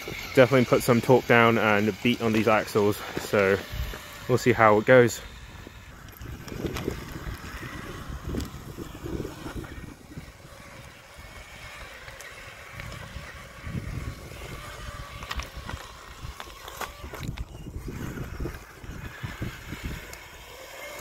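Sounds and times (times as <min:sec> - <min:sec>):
low rumble over rocks: 0:00.0 - 0:20.3
motor and gear whine: 0:00.0 - 0:21.0.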